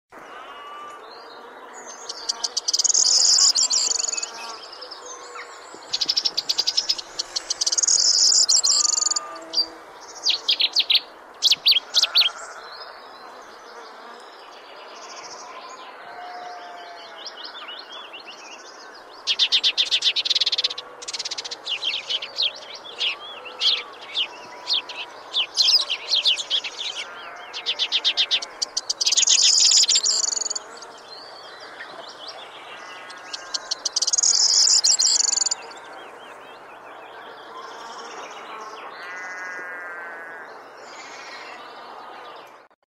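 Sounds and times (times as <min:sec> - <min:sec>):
songbirds chirping and trilling: 0:00.1 - 0:42.8.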